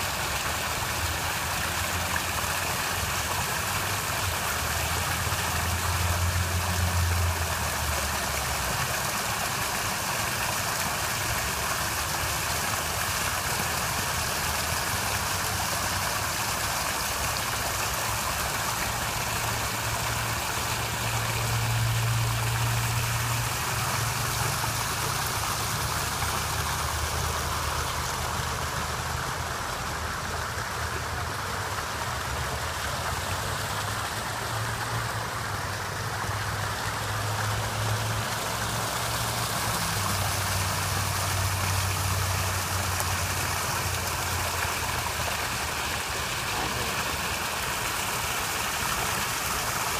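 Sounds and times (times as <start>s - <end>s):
waterfall rushing and splashing: 0.0s - 49.9s.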